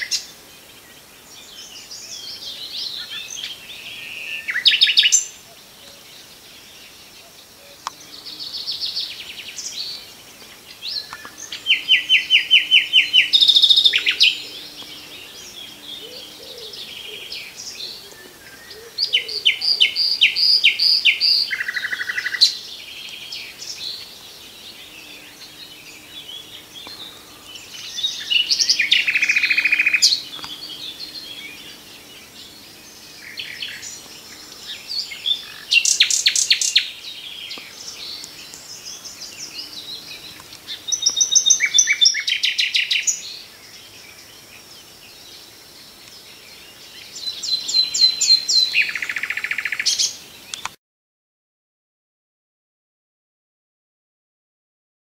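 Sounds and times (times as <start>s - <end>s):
nightingale singing: 0.0s - 50.8s.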